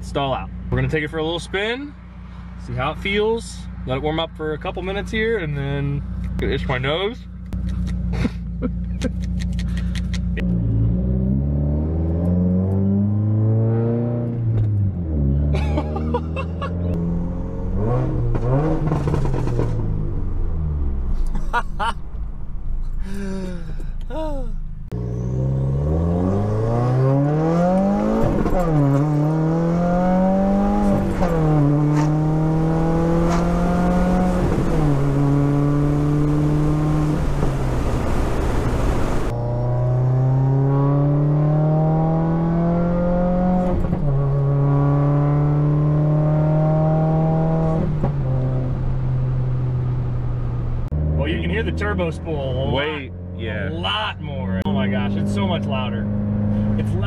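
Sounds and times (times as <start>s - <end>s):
car engine and exhaust accelerating: 0.0s - 23.1s, 24.6s - 57.0s.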